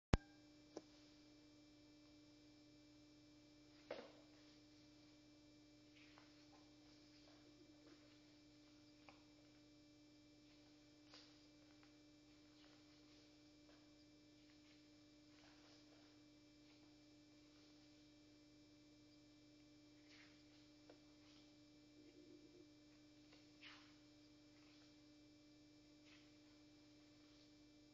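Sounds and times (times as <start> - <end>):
faint steady hum: 0.1 - 27.9.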